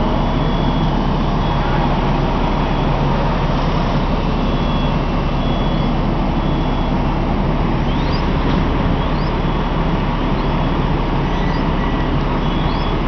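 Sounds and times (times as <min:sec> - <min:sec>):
fire engine diesel engine and pump: 0:00.0 - 0:13.0.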